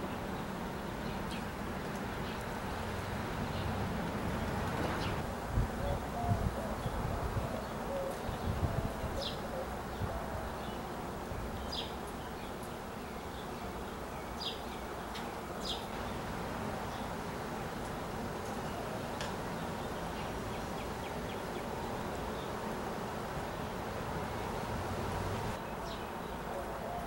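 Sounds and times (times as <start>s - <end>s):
low hum of background noise: 0.0s - 27.0s.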